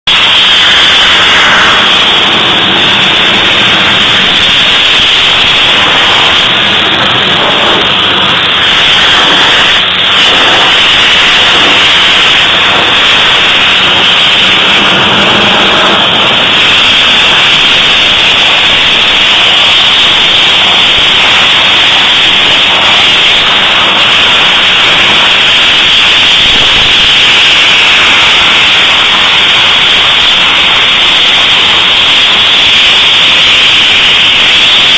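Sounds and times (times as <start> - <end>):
blasting nozzle hissing: 0.0 - 34.9.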